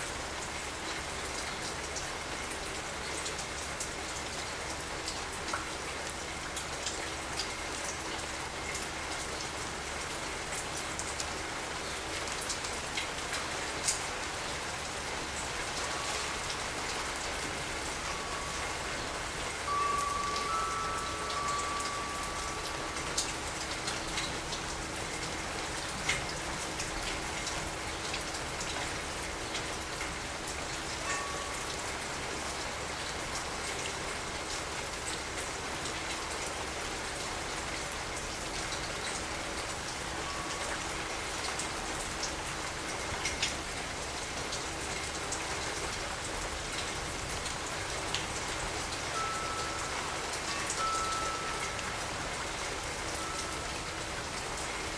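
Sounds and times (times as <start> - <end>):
rain pattering: 0.0 - 54.9.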